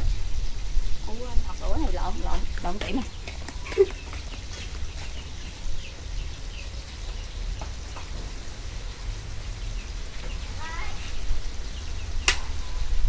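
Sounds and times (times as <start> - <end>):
small birds chirping: 0.0 - 13.0
steady hiss: 0.0 - 13.0.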